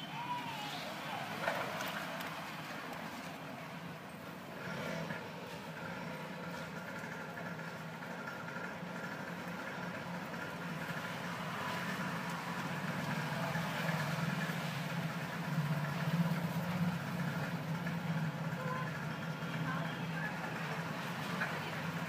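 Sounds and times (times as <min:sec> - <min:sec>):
engine idling hum: 0:00.0 - 0:22.0.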